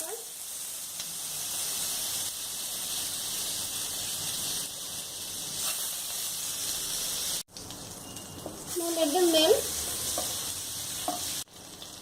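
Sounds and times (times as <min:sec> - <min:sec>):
butter sizzling in hot oil: 0:00.0 - 0:12.0.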